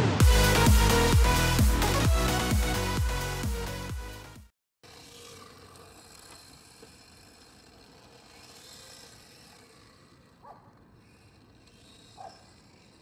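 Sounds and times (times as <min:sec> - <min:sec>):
electric rc car whirring: 0:00.2 - 0:13.0.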